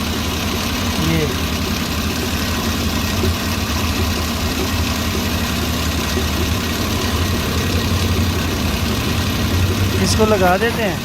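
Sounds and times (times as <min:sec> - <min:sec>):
petrol engine idling unevenly: 0:00.0 - 0:11.0.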